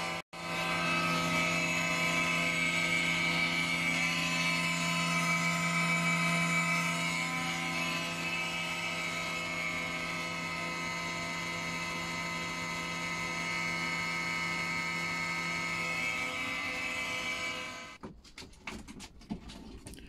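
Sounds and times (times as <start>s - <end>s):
electric motor humming with whine: 0.0s - 18.0s.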